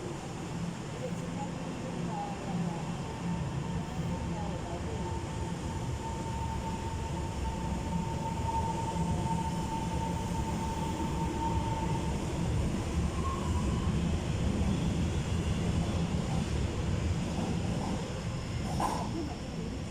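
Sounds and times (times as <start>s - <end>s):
train running rumble: 0.0s - 19.9s
train whine: 0.0s - 19.9s.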